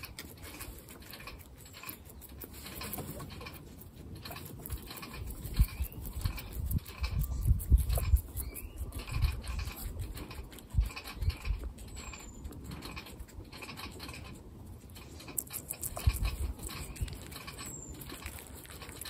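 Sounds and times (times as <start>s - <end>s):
guinea pig chewing cucumber: 0.0s - 19.0s.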